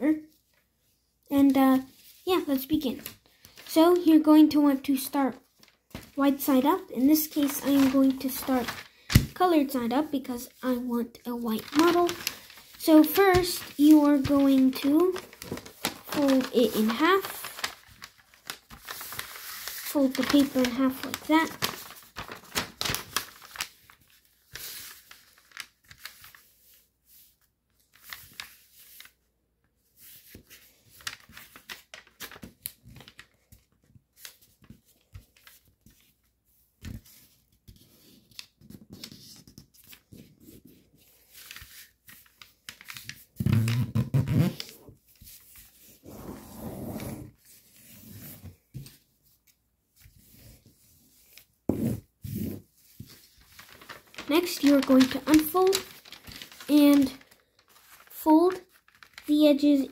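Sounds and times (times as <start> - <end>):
foil paper rustling and crinkling: 1.4 - 29.2, 29.9 - 36.2, 36.8 - 46.2, 52.6 - 59.9.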